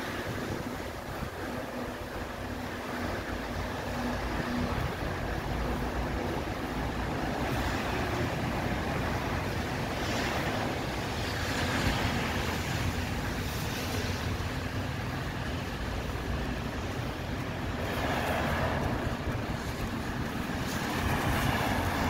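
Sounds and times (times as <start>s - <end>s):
tyres hissing on wet road: 0.0s - 22.0s.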